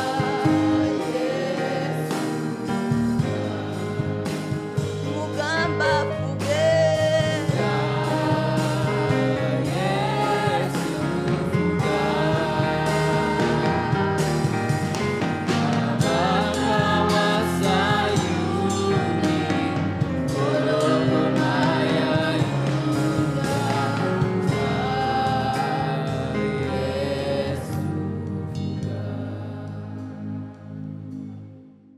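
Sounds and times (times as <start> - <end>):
gospel singing with instruments: 0.0 - 31.4.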